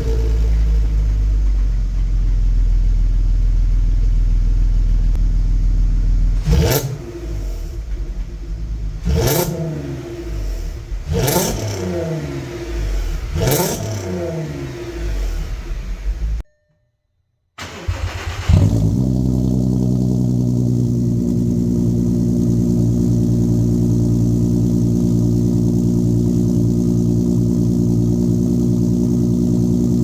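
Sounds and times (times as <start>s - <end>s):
engine revving: 0.0s - 1.6s, 6.2s - 16.4s, 17.6s - 30.0s
car exhaust idling: 0.0s - 16.4s, 18.4s - 30.0s.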